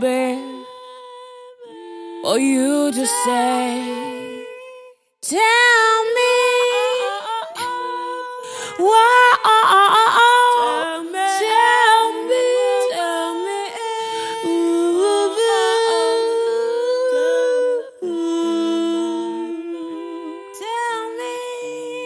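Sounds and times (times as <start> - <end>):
women singing wordless harmonies: 0.0 - 22.0.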